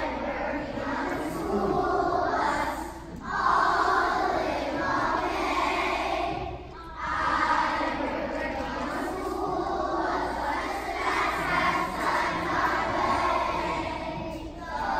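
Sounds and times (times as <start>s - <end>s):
children's choir singing: 0.0s - 14.9s.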